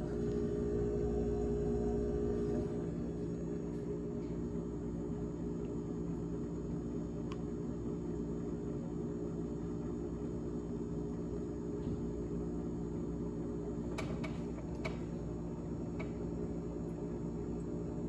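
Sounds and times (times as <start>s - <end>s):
refrigerator hum: 0.0s - 18.0s.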